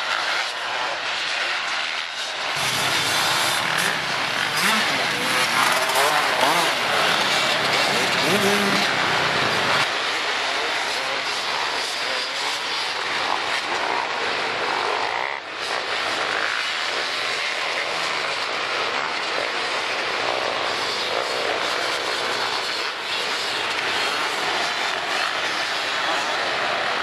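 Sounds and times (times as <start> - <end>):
racing quad bike engines droning: 0.0 - 27.0.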